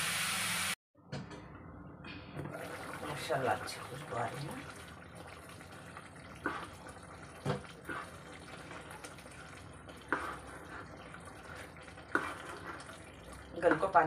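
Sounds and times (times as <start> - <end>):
liquid sloshing in a pan: 2.4 - 14.0.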